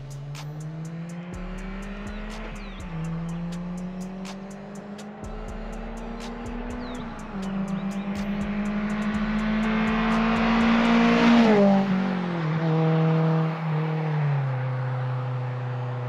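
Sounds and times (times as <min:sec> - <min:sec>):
car engine driving past: 0:00.0 - 0:16.0.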